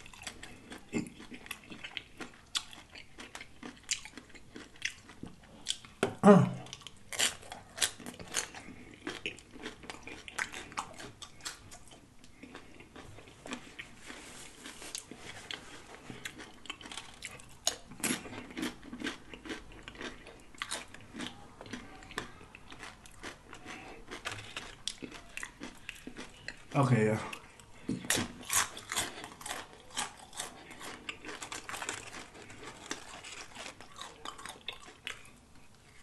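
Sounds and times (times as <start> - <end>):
person crunching tortilla chips: 0.0 - 36.0.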